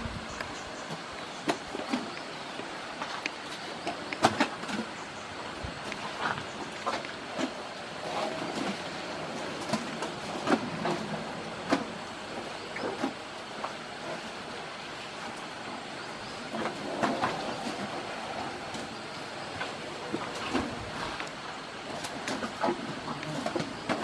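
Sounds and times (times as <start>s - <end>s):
elephants chewing and crunching: 0.4s - 24.0s.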